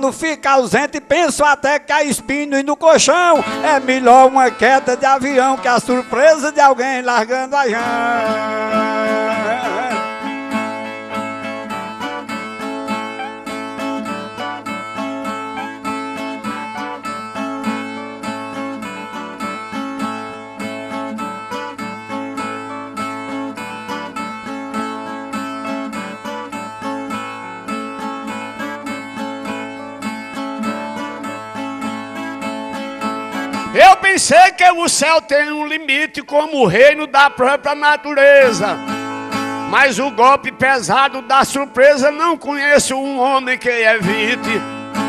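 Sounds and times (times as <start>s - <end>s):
plucked string instrumental: 2.2s - 34.3s, 35.7s - 45.0s.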